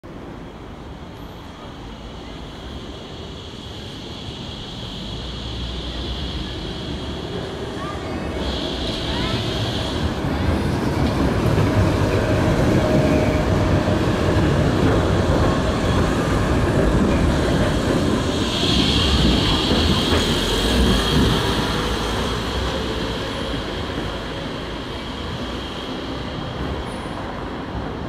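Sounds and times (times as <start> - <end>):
tram wheels rumbling on rail: 0.1 - 28.0.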